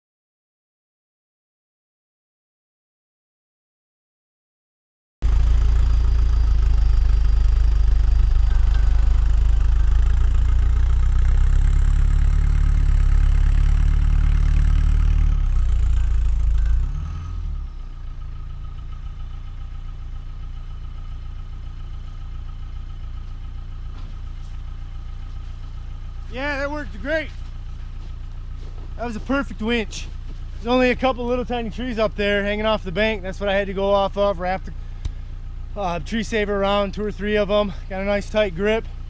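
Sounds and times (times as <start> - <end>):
engine idling: 5.2 - 39.0
truck engine running under load: 5.2 - 39.0.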